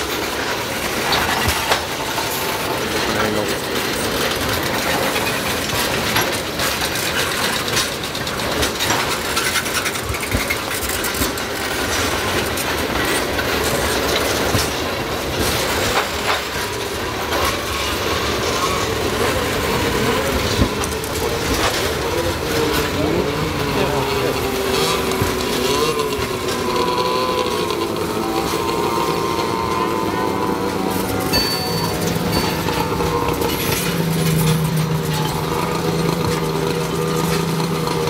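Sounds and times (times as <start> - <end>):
rapid clicking over rail joints: 0.0 - 38.0
train wheels rumbling on rail: 0.0 - 38.0
wheels squealing: 0.0 - 38.0.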